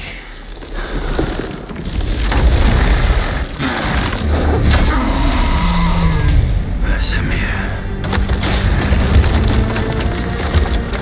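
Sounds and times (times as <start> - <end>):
deep booming wooden rumble: 0.0 - 6.9, 7.7 - 11.0
sharp wood cracks: 0.1 - 5.9, 8.0 - 11.0.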